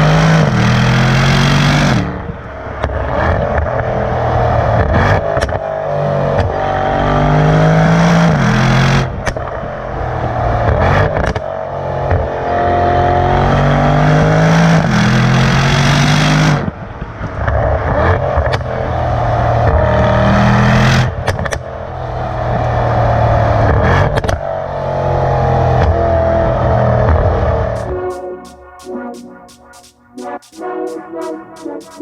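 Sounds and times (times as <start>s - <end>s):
car engine accelerating hard: 0.0s - 27.8s.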